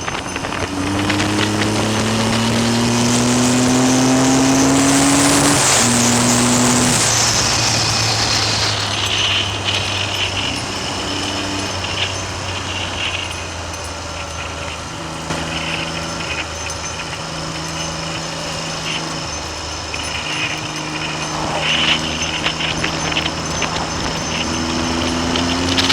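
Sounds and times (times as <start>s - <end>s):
motorcycle engine running: 0.0s - 25.9s
wind noise on microphone: 0.0s - 25.9s.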